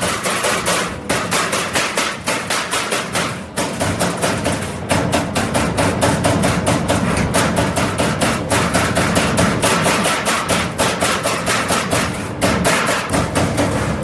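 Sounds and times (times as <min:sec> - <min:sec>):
punch press hammering sheet metal: 0:00.0 - 0:14.0.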